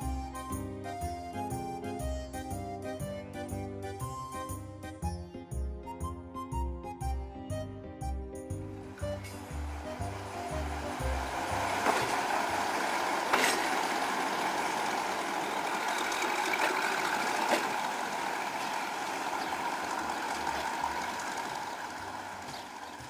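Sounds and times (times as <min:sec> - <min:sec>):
diesel railcar engine: 0:00.0 - 0:23.0.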